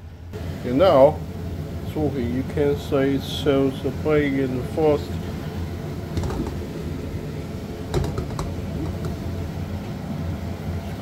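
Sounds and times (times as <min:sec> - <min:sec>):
steady low hum: 0:00.0 - 0:11.0
water boiling in a pan: 0:00.4 - 0:11.0.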